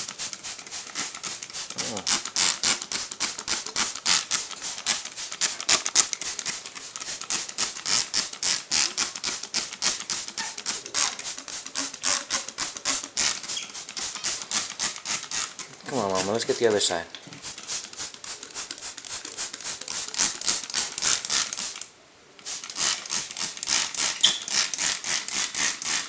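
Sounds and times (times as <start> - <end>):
spray bottle squirting: 0.0 - 26.0.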